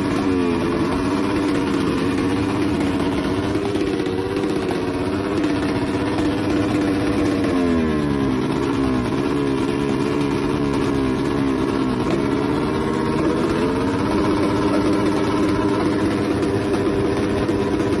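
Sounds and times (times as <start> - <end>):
motorcycle engine at low revs: 0.0 - 18.0.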